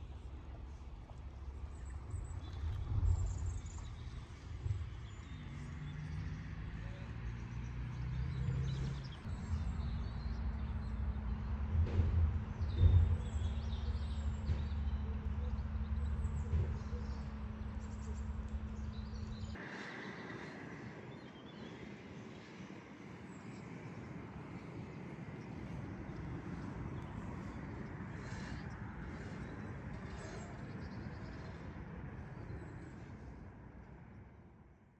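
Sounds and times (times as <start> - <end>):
steady low rumble: 0.0 - 7.0, 9.0 - 34.6.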